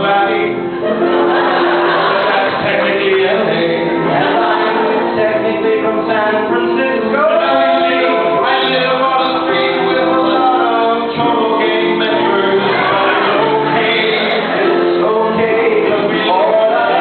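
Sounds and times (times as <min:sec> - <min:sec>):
piano accompaniment: 0:00.0 - 0:17.0
voices singing in harmony: 0:00.0 - 0:17.0.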